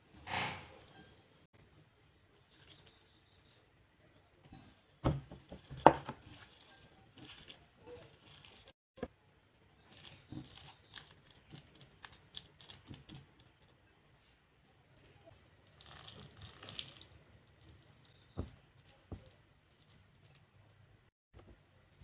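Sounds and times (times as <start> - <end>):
food mixed by hand crackling: 2.2 - 21.1.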